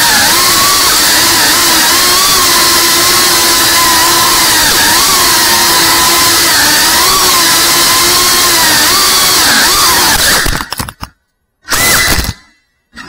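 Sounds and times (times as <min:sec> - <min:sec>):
quadcopter motors whining: 0:00.0 - 0:11.1, 0:11.7 - 0:12.5.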